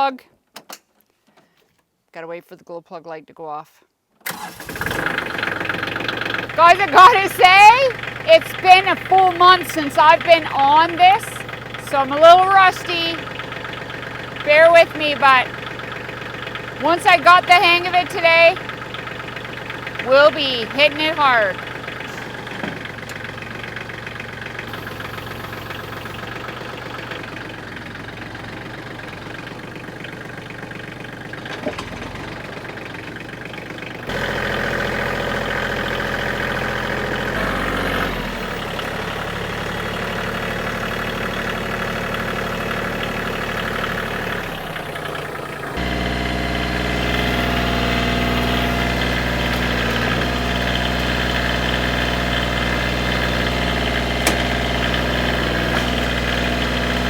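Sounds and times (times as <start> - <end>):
tractor diesel engine running: 4.3 - 57.0.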